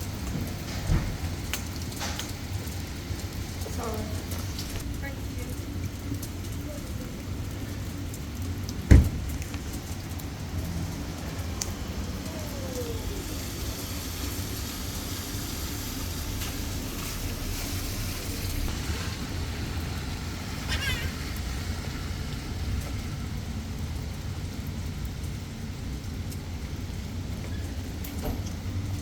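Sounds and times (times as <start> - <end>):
low constant rumble: 0.0 - 15.2, 15.8 - 29.0
heavy rain: 0.0 - 29.0.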